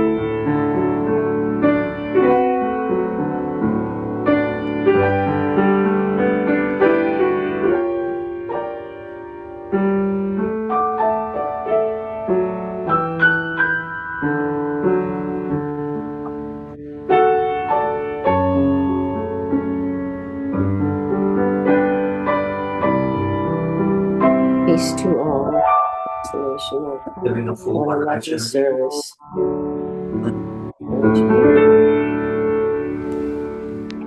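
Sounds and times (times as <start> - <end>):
slow piano piece: 0.0 - 34.0.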